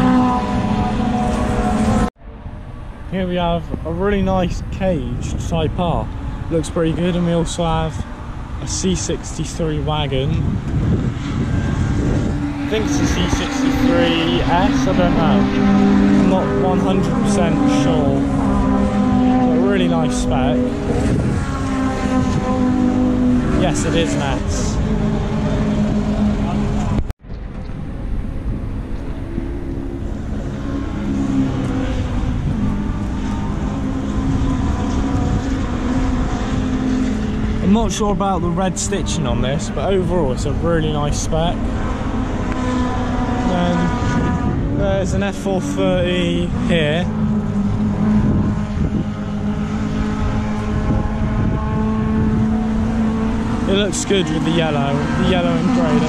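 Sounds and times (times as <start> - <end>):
race car engines droning: 0.0 - 56.0
wind buffeting microphone: 0.0 - 56.0.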